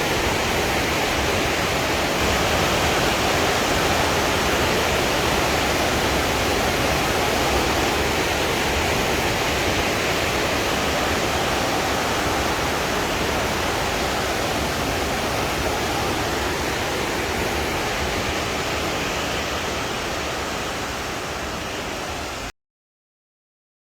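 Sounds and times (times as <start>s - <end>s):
waterfall rushing: 0.0s - 22.5s.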